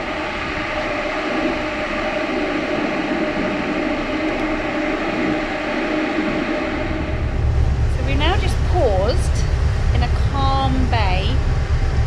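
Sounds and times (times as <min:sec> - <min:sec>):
ship engines droning: 0:00.0 - 0:12.0.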